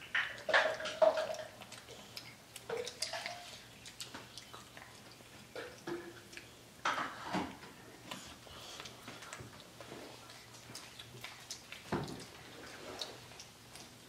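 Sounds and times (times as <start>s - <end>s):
children chewing: 0.0s - 14.0s.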